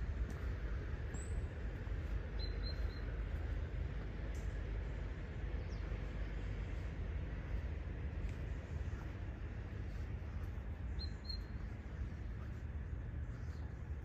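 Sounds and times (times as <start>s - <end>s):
birds chirping: 0.0s - 14.0s
low rumble: 0.0s - 14.0s.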